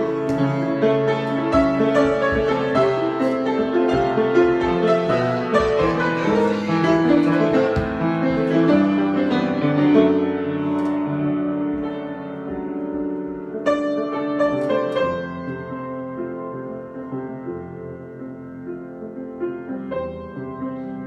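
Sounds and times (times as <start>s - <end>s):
solo piano improvisation: 0.0s - 21.0s.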